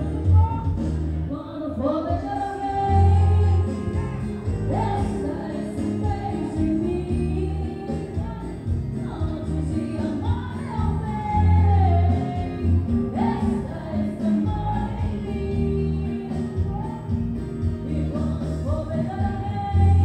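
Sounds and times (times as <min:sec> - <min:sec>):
amplified instrumental accompaniment: 0:00.0 - 0:20.0
woman singing into a microphone: 0:00.0 - 0:20.0.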